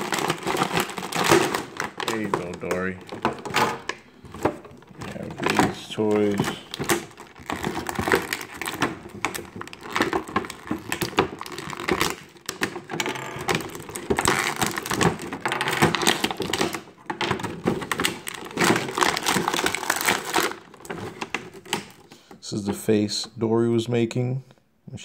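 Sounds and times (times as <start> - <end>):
plastic blister tray crinkling: 0.0 - 23.0.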